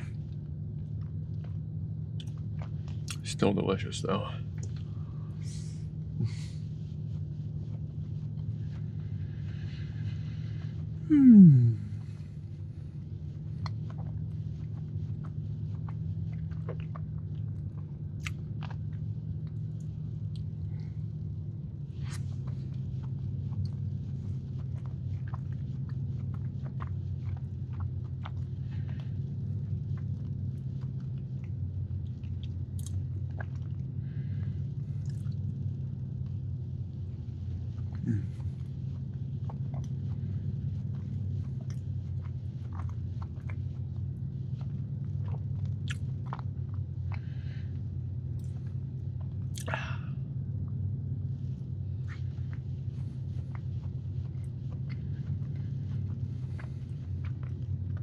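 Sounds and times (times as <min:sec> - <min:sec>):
person chewing soft cookie: 0:00.0 - 0:58.0
steady low hum: 0:00.0 - 0:58.0.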